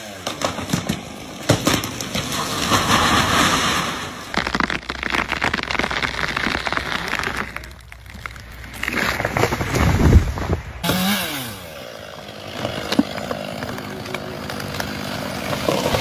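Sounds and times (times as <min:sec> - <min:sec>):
branches crackling and snapping: 0:00.0 - 0:16.0.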